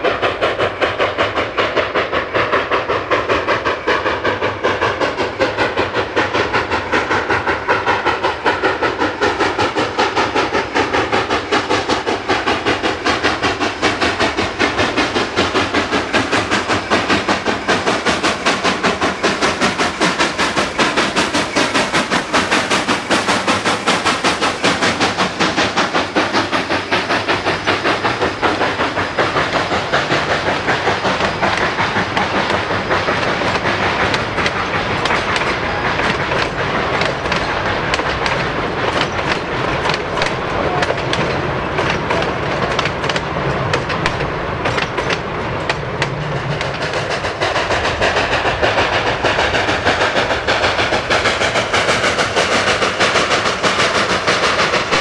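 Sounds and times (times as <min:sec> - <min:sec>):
train coaches clickety-clack: 0:00.0 - 0:55.0.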